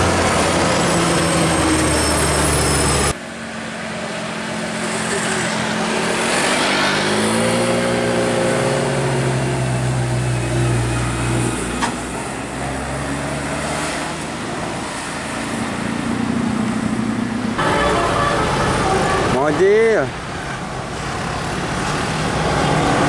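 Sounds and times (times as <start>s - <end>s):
bus engine droning: 0.0s - 23.0s
passing traffic: 0.0s - 23.0s.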